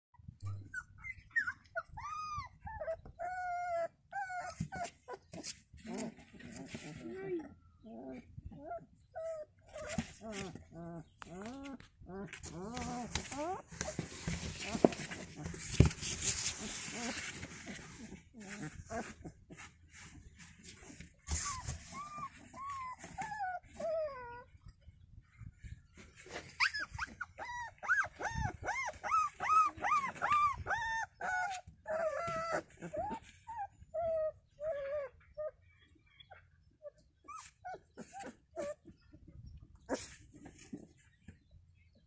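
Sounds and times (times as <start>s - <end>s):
puppies whining: 0.2s - 42.0s.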